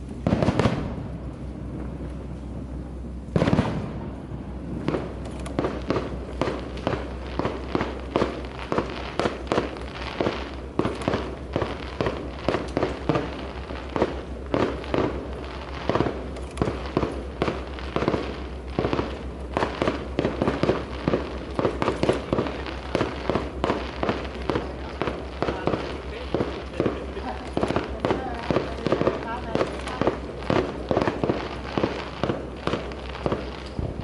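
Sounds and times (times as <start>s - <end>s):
fireworks bangs: 0.0s - 34.0s
fireworks crackle: 0.0s - 34.0s.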